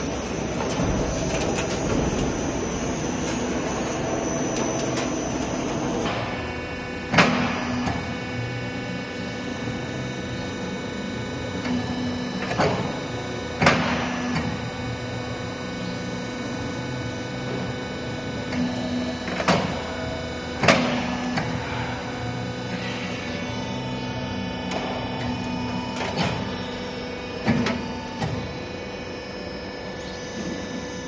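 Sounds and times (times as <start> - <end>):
machine motor hum: 0.0 - 31.0.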